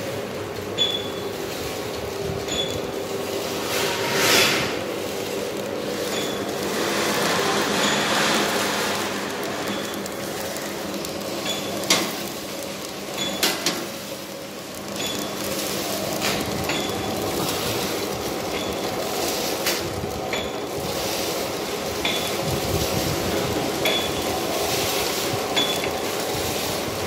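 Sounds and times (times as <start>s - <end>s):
packing machine humming: 0.0s - 27.0s.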